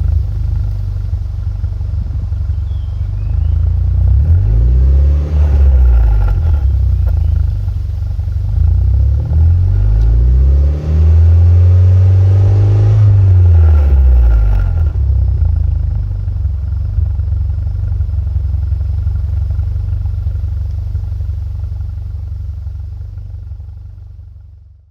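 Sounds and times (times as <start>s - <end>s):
car exhaust revving and idling: 0.0s - 24.9s.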